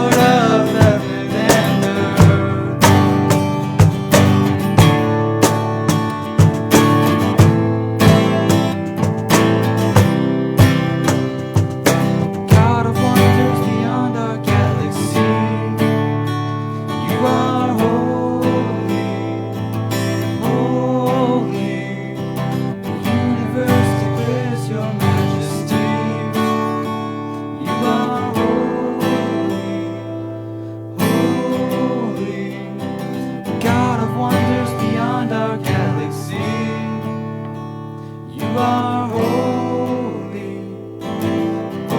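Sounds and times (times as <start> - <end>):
strummed acoustic guitar music: 0.0 - 41.9.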